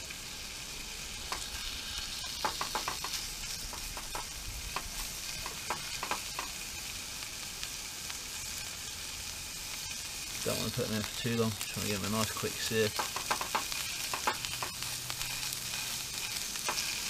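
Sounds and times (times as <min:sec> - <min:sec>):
fish sizzling in a frying pan: 0:00.0 - 0:17.0.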